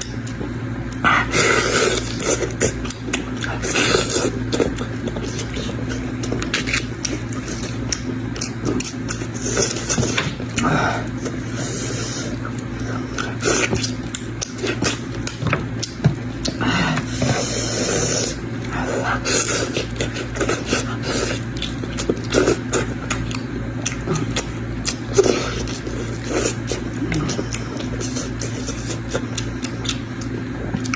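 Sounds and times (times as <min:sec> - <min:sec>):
person chewing: 0:00.0 - 0:30.9
steady low hum: 0:00.0 - 0:30.9.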